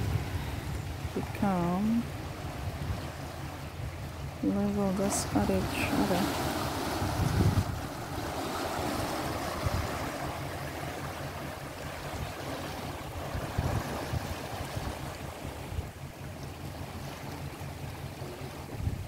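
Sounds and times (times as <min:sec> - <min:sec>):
water rushing and churning: 0:00.0 - 0:19.0.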